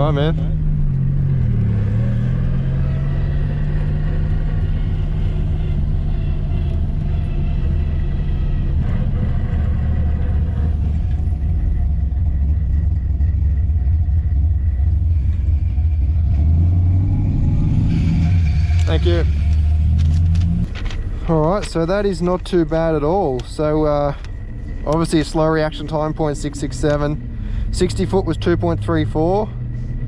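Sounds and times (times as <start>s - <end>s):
engine droning at low revs: 0.0s - 30.0s.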